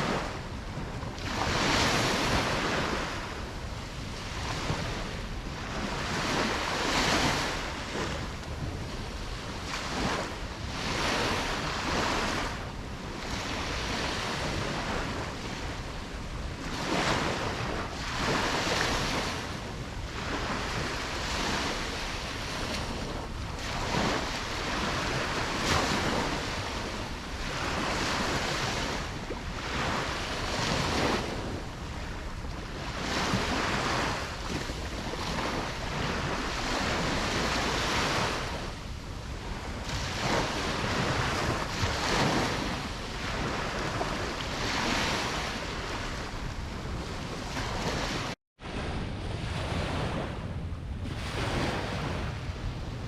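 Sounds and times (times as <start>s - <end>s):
low rumble of surf: 0.0s - 53.0s
ocean waves breaking: 0.0s - 53.0s.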